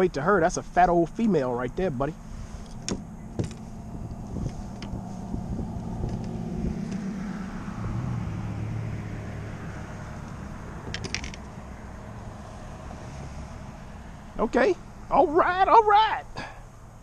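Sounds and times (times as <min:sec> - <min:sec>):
car engine and tyre hum: 0:00.0 - 0:17.0.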